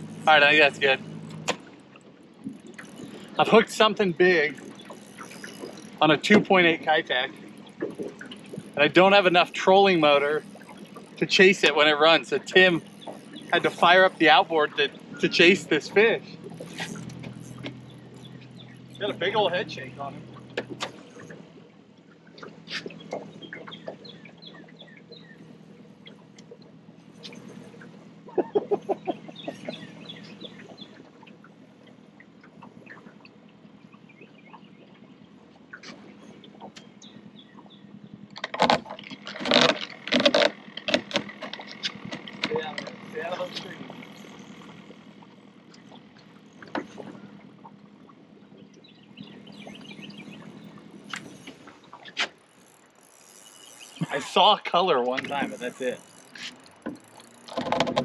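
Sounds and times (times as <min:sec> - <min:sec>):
birds chirping: 0:00.0 - 0:38.4, 0:40.6 - 0:57.7
low steady hum: 0:00.0 - 0:58.0.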